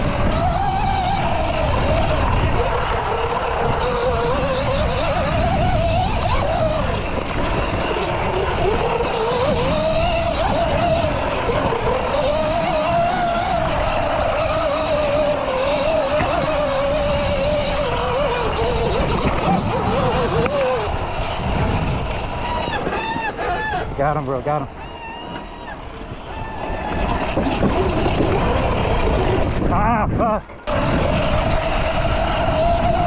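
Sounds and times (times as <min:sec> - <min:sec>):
electric motorbike motor whining: 0:00.0 - 0:33.0.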